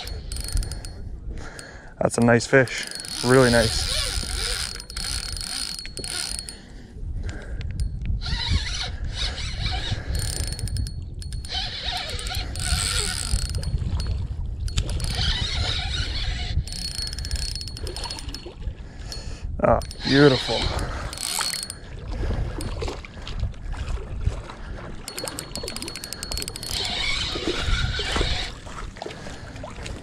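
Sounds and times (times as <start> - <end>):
fishing reel clicking and whirring: 0.0 - 22.9, 25.1 - 28.7.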